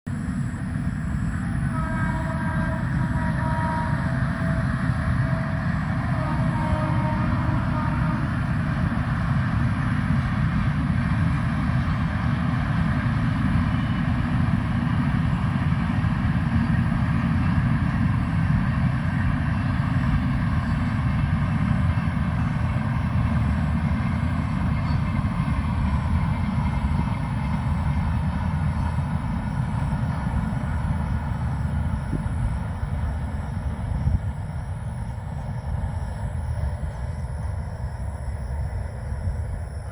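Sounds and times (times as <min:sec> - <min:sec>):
train wheels rumbling on track: 0:00.1 - 0:39.9.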